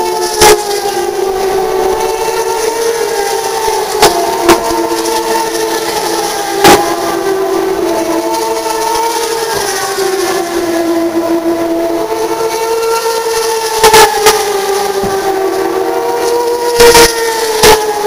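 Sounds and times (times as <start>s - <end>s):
race car engines howling: 0.0s - 18.0s.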